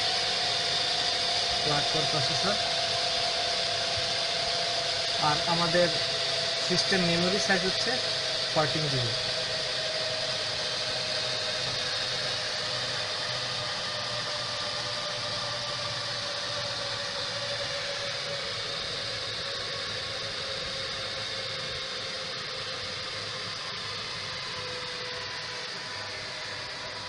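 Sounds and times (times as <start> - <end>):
server cooling fans whirring: 0.0 - 27.0.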